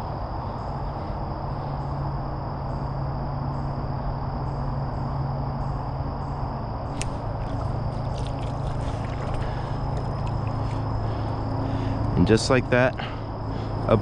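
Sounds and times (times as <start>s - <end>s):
insects trilling chorus: 0.0s - 14.0s
low hum: 0.0s - 14.0s
pulsing insect call: 0.0s - 14.0s.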